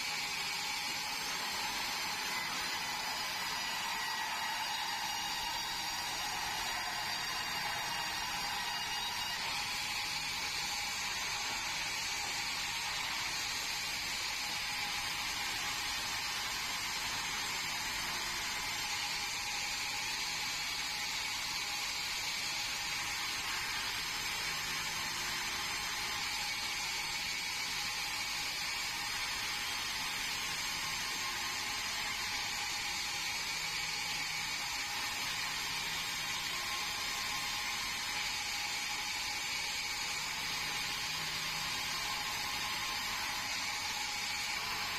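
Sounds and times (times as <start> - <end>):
band sawmill whine and hiss: 0.0 - 44.9.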